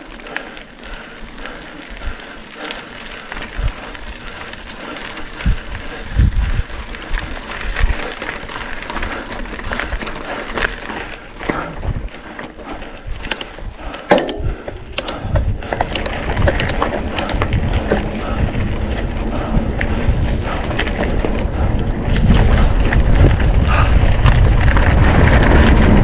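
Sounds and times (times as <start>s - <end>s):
tyres crunching on gravel: 0.0s - 13.7s, 15.7s - 26.0s
bike clicks and rattles: 0.0s - 26.0s
low rumble: 1.4s - 26.0s.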